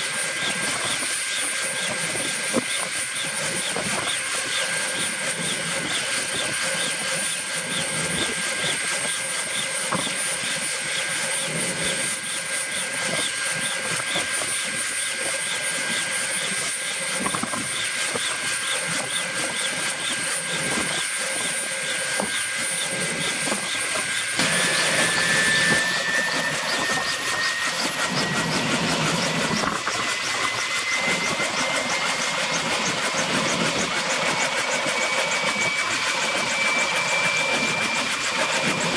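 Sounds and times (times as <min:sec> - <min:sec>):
helicopter engine whine: 0:00.0 - 0:38.9
helicopter rotors beating: 0:00.0 - 0:38.9.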